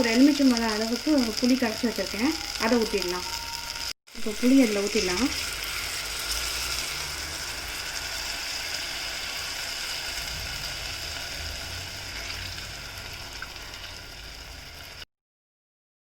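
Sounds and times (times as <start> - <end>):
food sizzling in a hot pan: 0.0 - 15.1.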